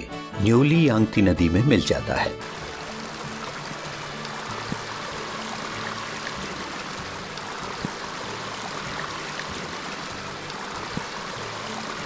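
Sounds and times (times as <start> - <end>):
stream flowing: 0.6 - 12.0.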